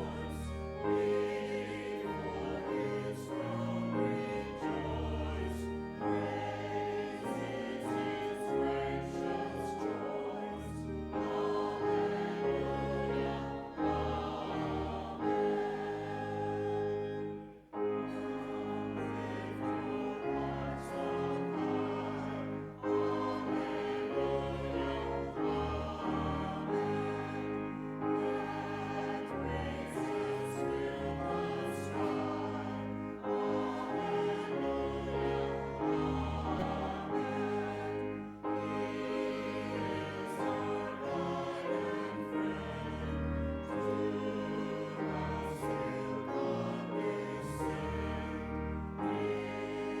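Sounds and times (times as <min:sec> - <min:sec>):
accompaniment holding long chords: 0:00.0 - 0:50.0
congregation singing a hymn: 0:00.0 - 0:50.0.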